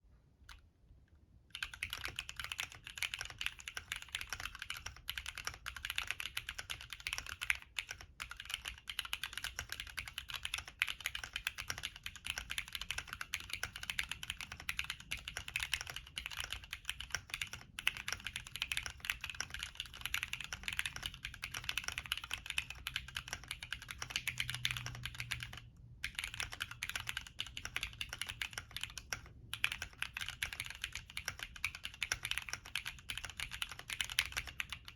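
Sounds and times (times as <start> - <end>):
mechanical keyboard typing: 1.5 - 34.9.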